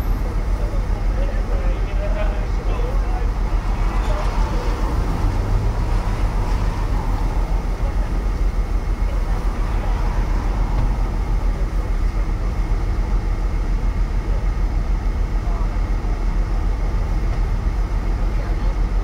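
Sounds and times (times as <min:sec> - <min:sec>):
low rumble and rushing noise: 0:00.0 - 0:19.0.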